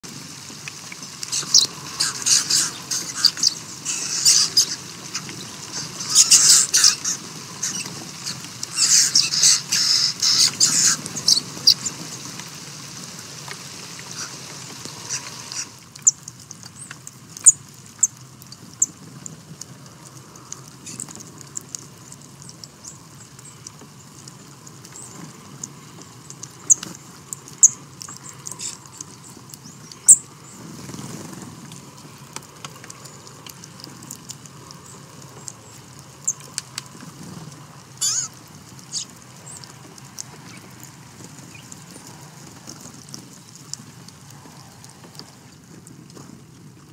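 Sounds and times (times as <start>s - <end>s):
birds pecking and cracking seeds: 0.1s - 46.9s.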